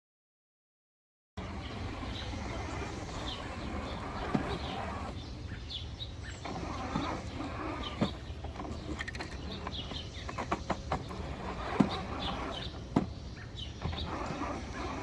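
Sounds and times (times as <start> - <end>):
birds chirping: 1.4 - 15.0.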